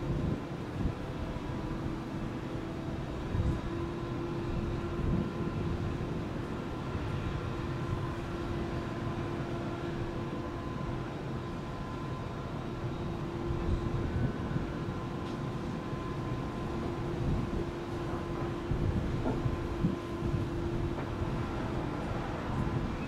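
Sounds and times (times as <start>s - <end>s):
constant humming tone: 0.0s - 23.0s
low rumble of vehicle noise: 0.0s - 23.0s.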